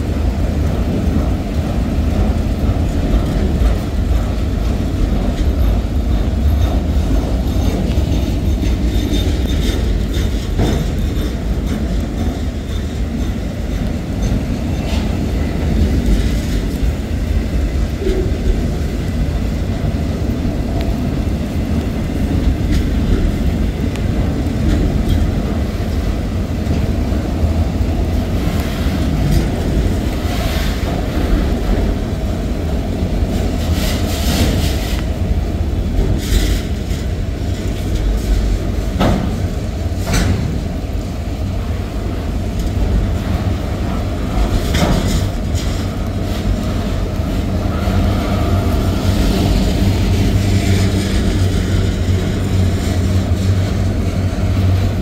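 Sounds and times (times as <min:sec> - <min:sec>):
train wheels rumbling: 0:00.0 - 0:55.0
wheels clicking over rail joints: 0:00.0 - 0:55.0.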